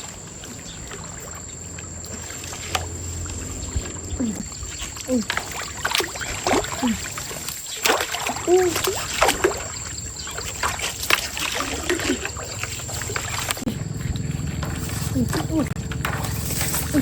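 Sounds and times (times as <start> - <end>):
running water: 0.0 - 17.0
water splashing: 0.0 - 17.0.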